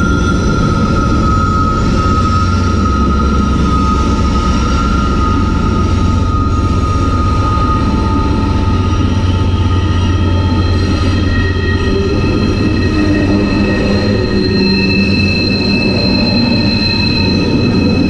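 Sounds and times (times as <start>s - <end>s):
freight train rumble: 0.0s - 18.0s
high whine: 0.0s - 18.0s.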